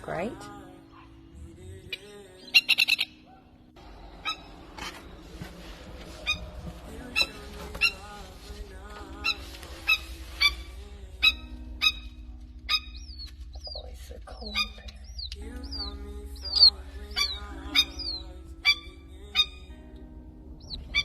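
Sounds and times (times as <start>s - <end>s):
plover alarm calls: 1.9s - 19.7s, 20.6s - 21.0s.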